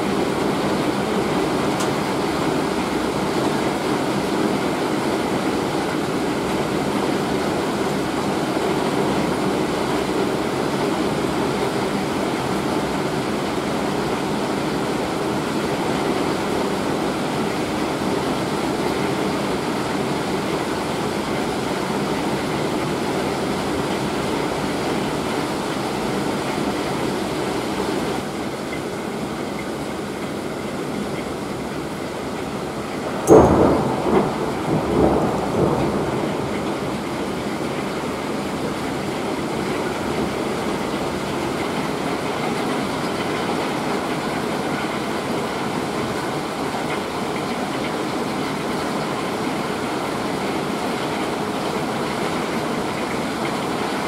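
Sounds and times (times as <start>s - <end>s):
hail and heavy rain: 0.0s - 54.0s.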